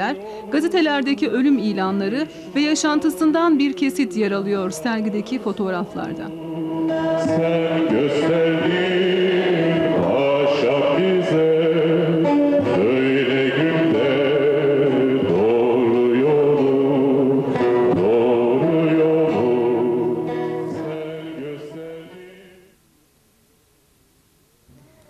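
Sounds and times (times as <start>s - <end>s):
instrumental accompaniment: 0.0s - 22.0s
person singing: 0.0s - 22.7s.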